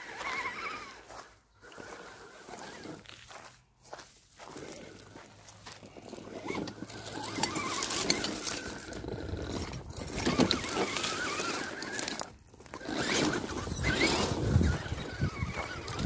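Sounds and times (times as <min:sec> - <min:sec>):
electric motor whining: 0:00.0 - 0:03.1, 0:05.9 - 0:16.0
tyres crunching over rocks: 0:00.1 - 0:16.0.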